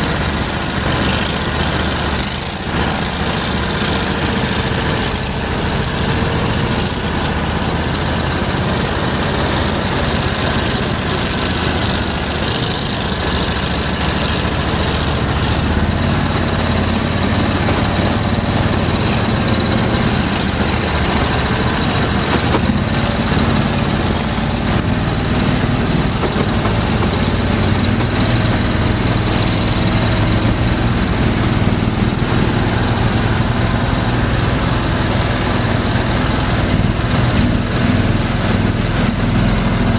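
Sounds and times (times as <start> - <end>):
vehicle engines running: 0.0 - 39.9.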